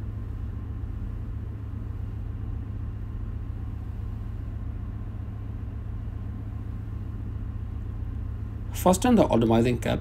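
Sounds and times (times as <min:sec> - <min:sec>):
deep rumble of engine machinery: 0:00.0 - 0:10.0.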